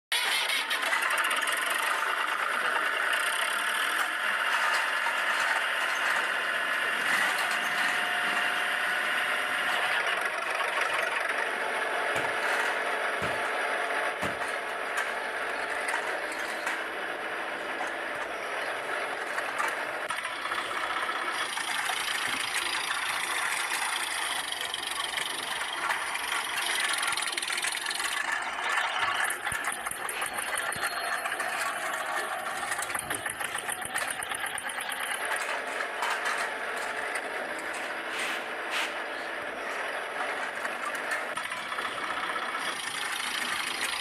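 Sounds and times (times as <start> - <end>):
toy wheels rattling on concrete: 0.1 - 44.0.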